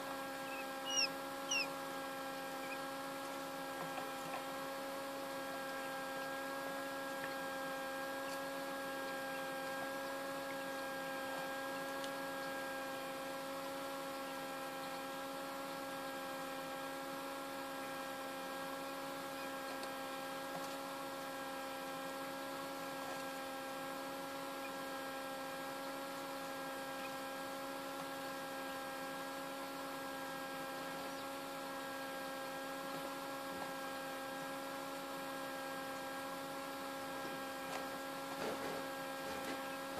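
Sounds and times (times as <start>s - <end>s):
incubator fan hum: 0.0s - 39.9s.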